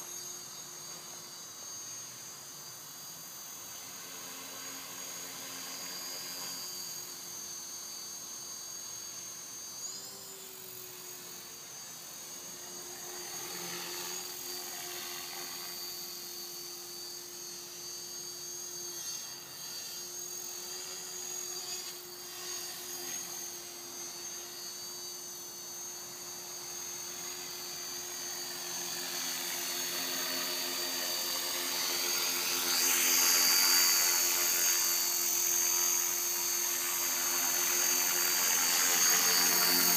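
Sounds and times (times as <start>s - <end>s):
rc helicopter rotors whining: 0.0s - 39.9s.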